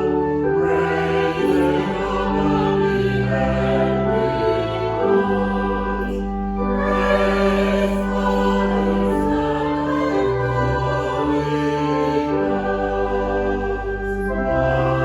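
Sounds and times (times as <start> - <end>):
choral voices: 0.0 - 15.0
sustained chord music: 0.0 - 15.0.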